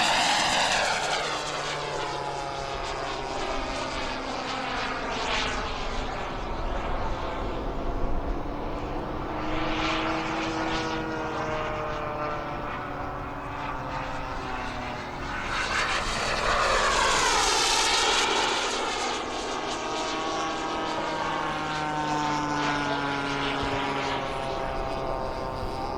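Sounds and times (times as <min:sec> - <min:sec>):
model airplane engine drone: 0:00.0 - 0:25.9.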